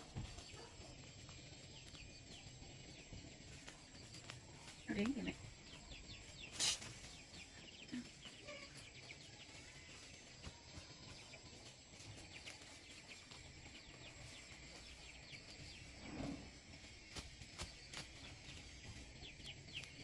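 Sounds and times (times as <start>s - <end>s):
chickens chirping: 0.0s - 20.0s.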